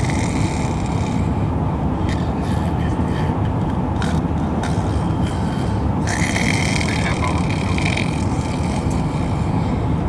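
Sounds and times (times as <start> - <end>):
road and engine rumble in car: 0.0 - 10.0.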